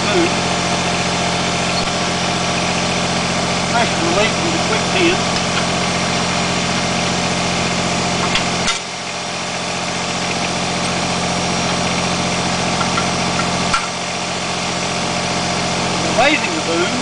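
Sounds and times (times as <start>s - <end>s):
diesel tractor engine idling: 0.0s - 17.0s.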